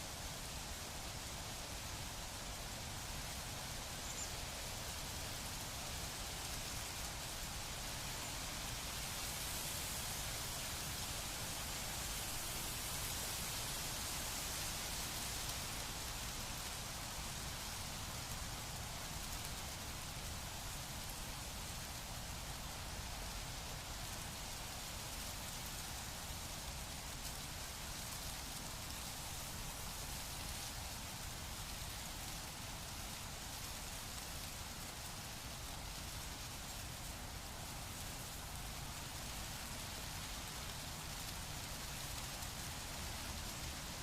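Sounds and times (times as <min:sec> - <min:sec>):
leaves rustling in wind: 0:00.0 - 0:44.0.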